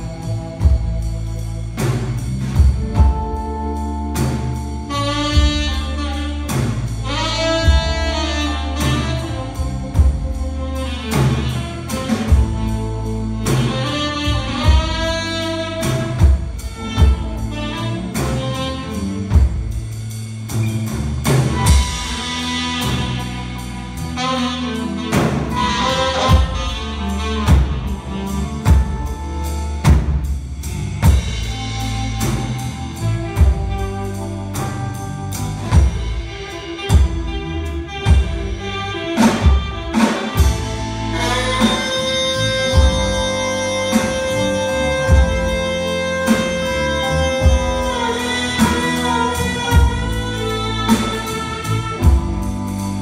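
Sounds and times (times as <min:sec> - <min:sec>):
saxophone solo: 0:00.0 - 0:20.2, 0:21.5 - 0:30.2, 0:31.0 - 0:53.0
drum kit beat: 0:00.0 - 0:53.0
low bass line: 0:00.0 - 0:53.0.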